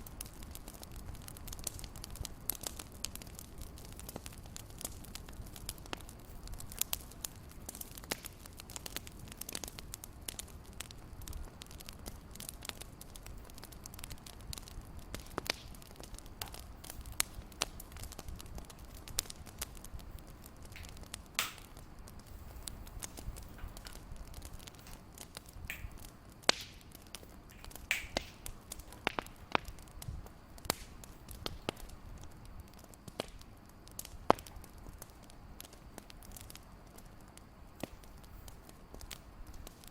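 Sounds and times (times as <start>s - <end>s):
fireplace crackling: 0.0s - 39.9s.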